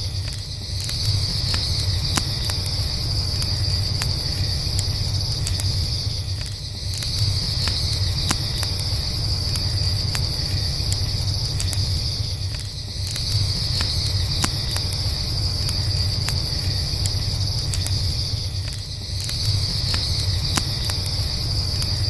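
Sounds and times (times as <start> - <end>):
campfire crackling: 0.0 - 22.0
crickets trilling: 0.0 - 22.0.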